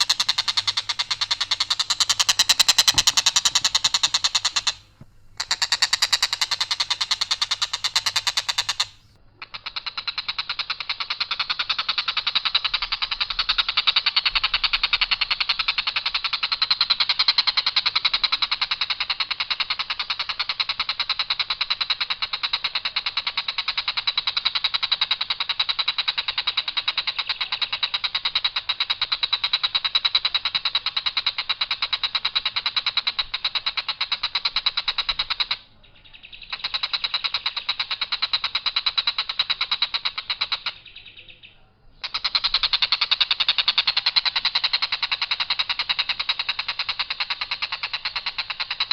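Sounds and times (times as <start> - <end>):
bird harsh rattling call: 0.0 - 48.9.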